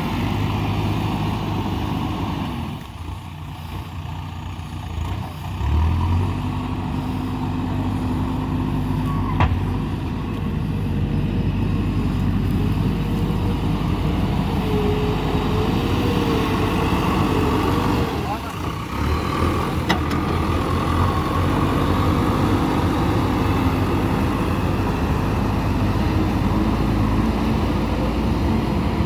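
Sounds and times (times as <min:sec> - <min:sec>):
diesel engine working: 0:00.0 - 0:29.0.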